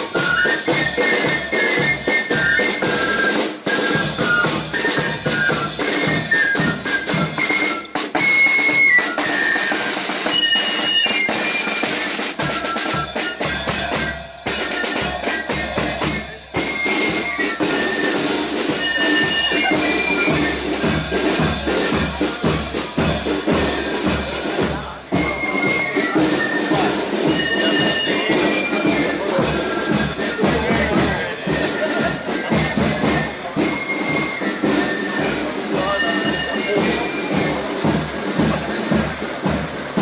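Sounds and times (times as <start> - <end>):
high wind instrument melody: 0.0 - 40.0
marching drum beats: 0.0 - 40.0.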